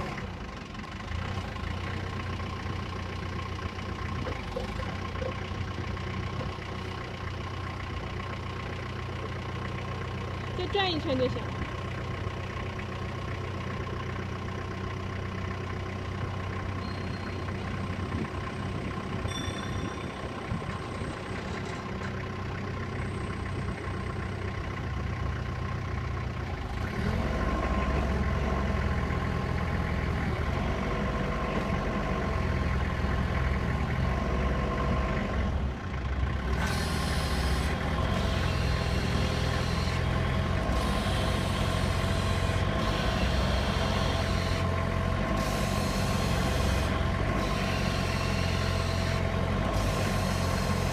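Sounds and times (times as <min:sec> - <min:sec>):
forklift engine running: 0:00.0 - 0:50.9.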